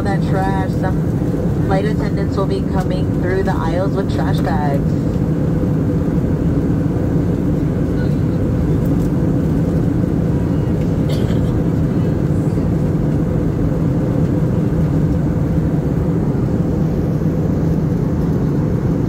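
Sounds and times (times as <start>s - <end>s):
jet airliner cabin drone: 0.0s - 19.0s.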